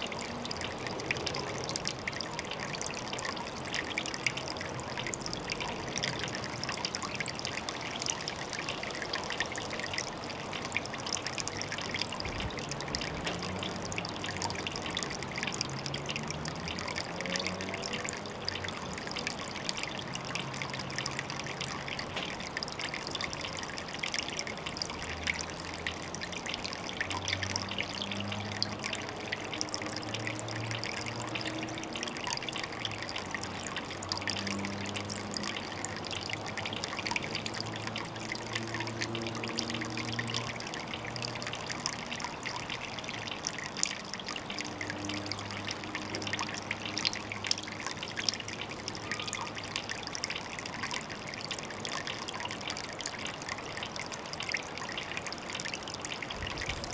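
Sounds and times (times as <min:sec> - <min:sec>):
low gurgling: 0:00.0 - 0:56.9
water trickling: 0:00.0 - 0:56.9.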